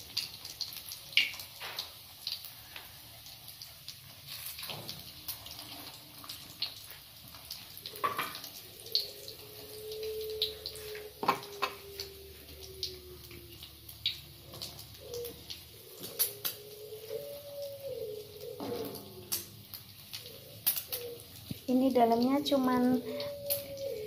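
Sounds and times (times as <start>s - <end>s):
food frying in crackling oil: 0.0s - 24.0s.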